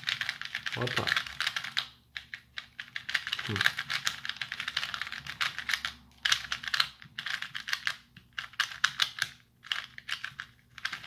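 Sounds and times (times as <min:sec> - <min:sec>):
puzzle cube plastic clacking: 0:00.0 - 0:11.0.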